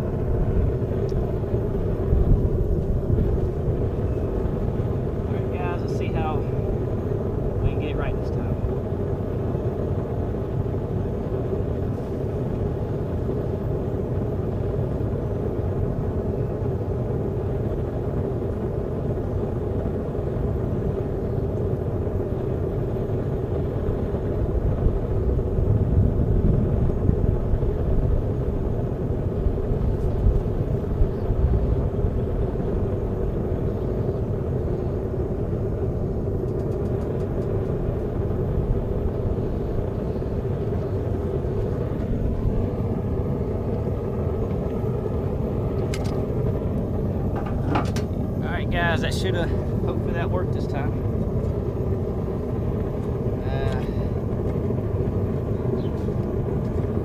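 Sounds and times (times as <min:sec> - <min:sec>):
furnace roaring: 0:00.0 - 0:57.0
steady hum: 0:00.0 - 0:57.0.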